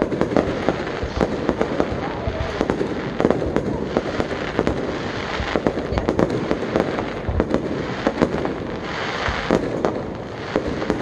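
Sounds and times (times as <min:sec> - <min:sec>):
fireworks bangs and pops: 0:00.0 - 0:11.0
fireworks crackle: 0:00.0 - 0:11.0.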